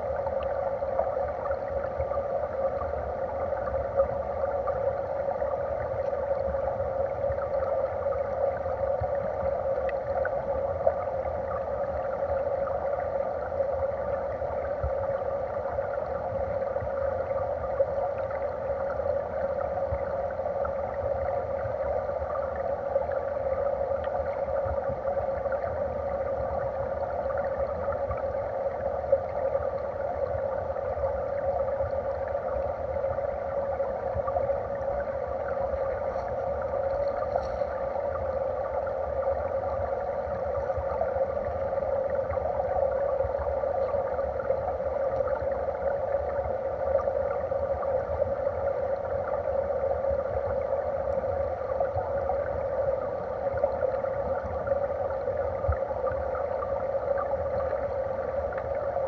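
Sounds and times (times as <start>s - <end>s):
faint ticks: 0.0s - 59.0s
stream water rushing underwater: 0.0s - 59.0s.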